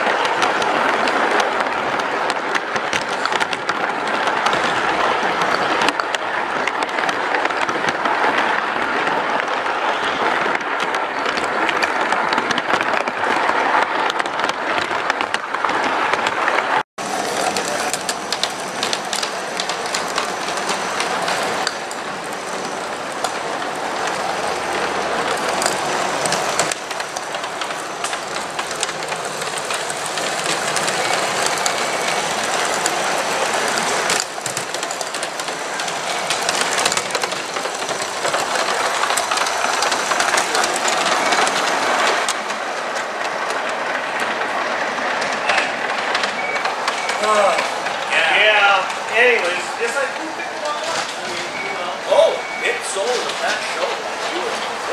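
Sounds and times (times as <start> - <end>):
train wheels clicking over rail joints: 0.0 - 51.8.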